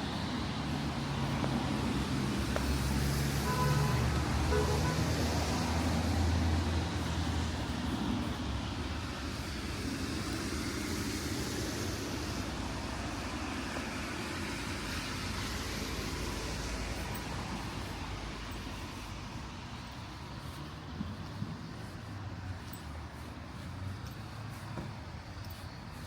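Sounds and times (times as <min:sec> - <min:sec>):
car engine hum: 0:00.0 - 0:26.0
tyres hissing on wet road: 0:00.0 - 0:26.0.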